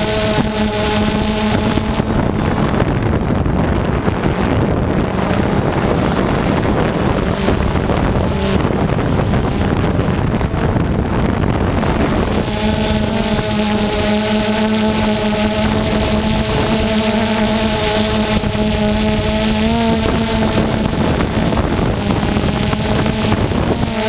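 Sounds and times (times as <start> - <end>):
dirt bike engine running: 0.0 - 24.0
wind buffeting microphone: 0.0 - 24.0.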